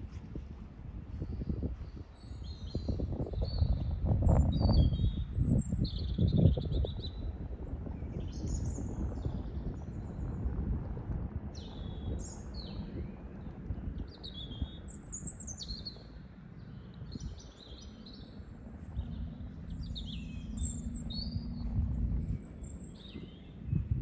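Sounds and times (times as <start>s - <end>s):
songbirds chirping: 0.0s - 10.6s, 11.4s - 24.0s
low outdoor rumble: 0.0s - 24.0s.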